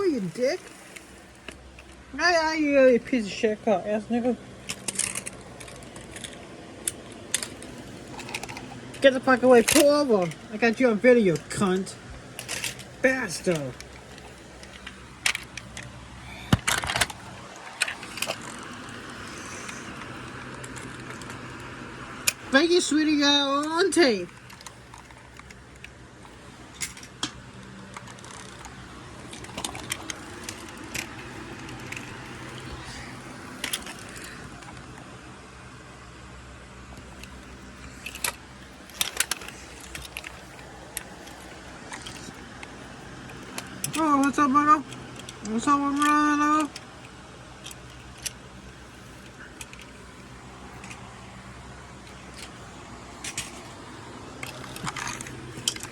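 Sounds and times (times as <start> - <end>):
light clicks and rattles: 0.0 - 35.3, 36.8 - 55.9
car engine and road hum: 0.0 - 55.9.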